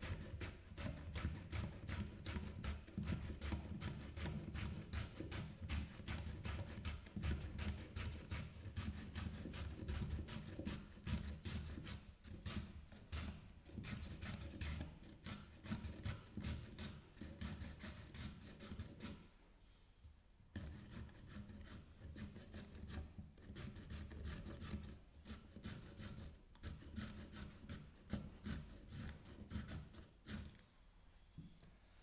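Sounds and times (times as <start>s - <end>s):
carrot rasping on a shredder: 0.0s - 19.1s, 20.6s - 30.6s.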